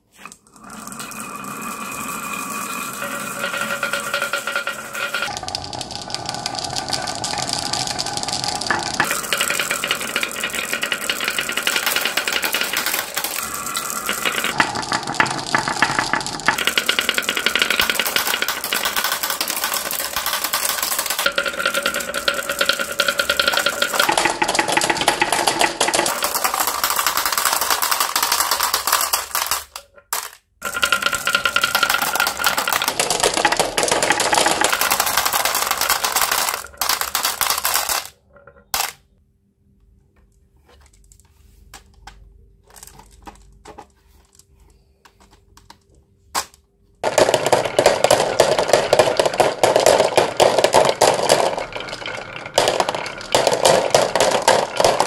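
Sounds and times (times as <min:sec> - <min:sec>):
marbles clattering down wooden tracks: 0:00.6 - 0:39.2, 0:41.6 - 0:44.4, 0:45.1 - 0:55.0
marbles clinking into plastic basket: 0:01.0 - 0:39.1, 0:42.6 - 0:44.4, 0:46.4 - 0:55.0.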